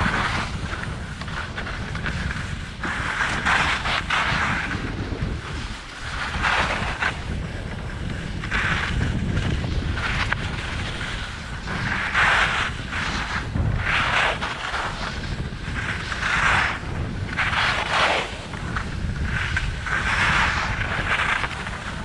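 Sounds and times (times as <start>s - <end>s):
ski edges scraping snow: 0.0s - 22.0s
wind rumbling on microphone: 0.0s - 22.0s.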